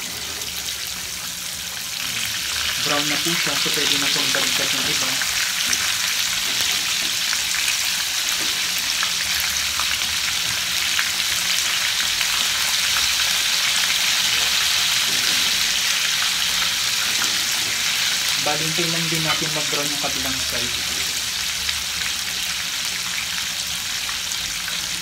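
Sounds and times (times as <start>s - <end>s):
tofu sizzling in oil: 0.0s - 25.0s.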